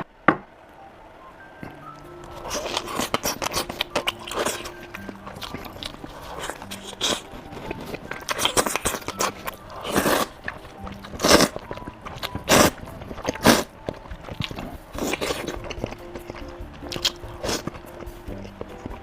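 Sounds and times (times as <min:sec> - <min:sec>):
person chewing food: 0:01.6 - 0:19.0.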